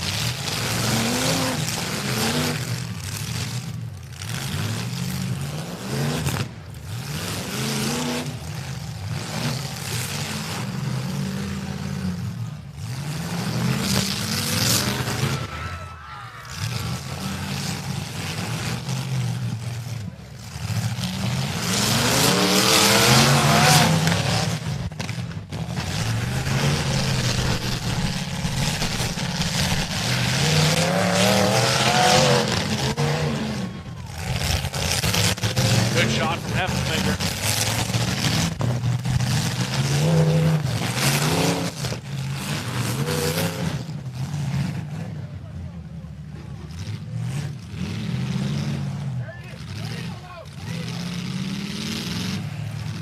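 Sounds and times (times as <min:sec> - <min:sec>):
car engines revving hard: 0:00.0 - 0:53.0.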